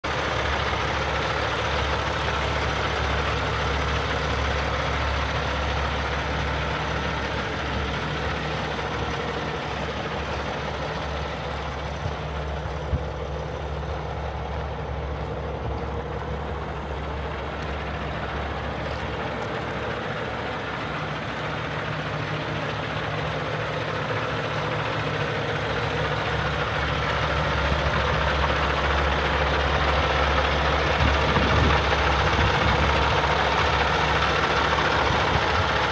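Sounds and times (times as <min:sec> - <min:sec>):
truck diesel engine idling: 0:00.0 - 0:35.9.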